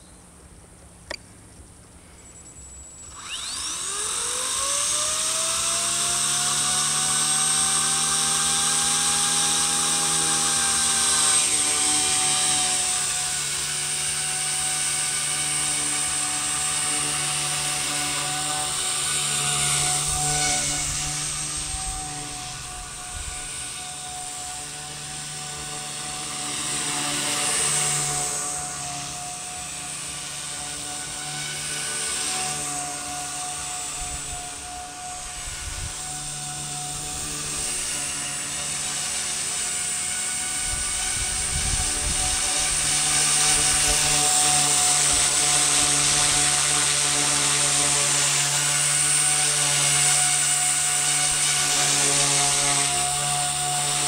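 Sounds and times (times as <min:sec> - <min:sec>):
rc helicopter rotor whine: 0:00.0 - 0:54.0.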